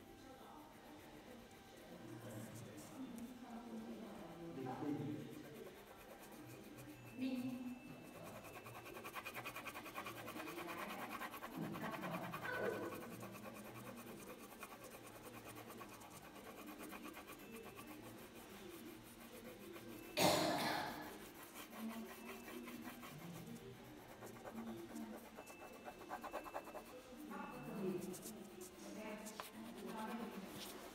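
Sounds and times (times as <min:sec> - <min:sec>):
crayon scratching on paper: 0:00.3 - 0:30.9.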